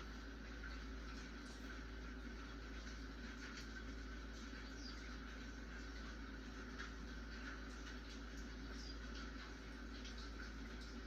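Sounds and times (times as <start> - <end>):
faint rain: 0.0 - 11.0
light raindrop ticks: 0.4 - 11.0.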